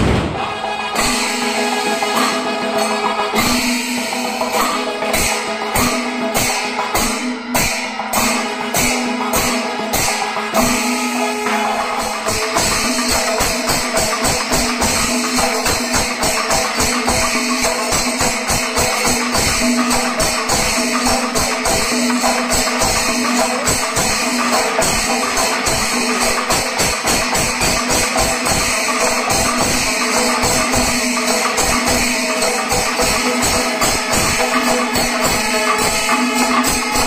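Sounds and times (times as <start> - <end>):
drums beaten fast with sticks: 0.0 - 37.0
hand cymbals clashing: 0.0 - 37.0.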